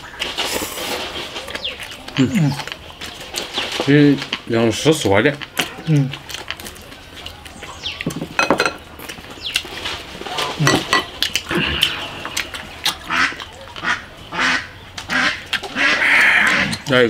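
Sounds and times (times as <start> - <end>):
chewing and mouth noises: 0.0 - 17.0.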